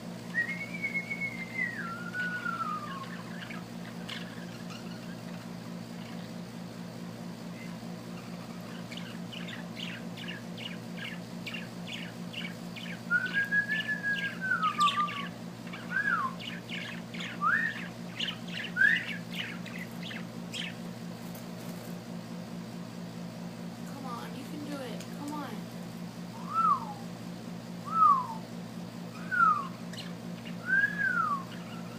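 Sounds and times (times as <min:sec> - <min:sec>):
steady low hum: 0:00.0 - 0:31.9
small bird singing: 0:00.3 - 0:21.3, 0:23.8 - 0:31.9.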